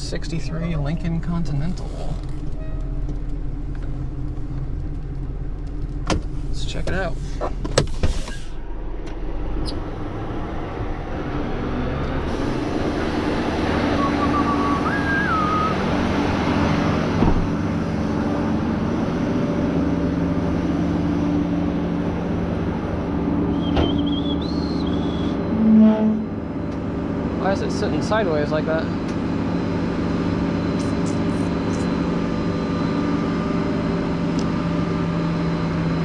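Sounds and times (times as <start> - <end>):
vehicle engine idling: 0.0 - 7.7, 12.3 - 36.0.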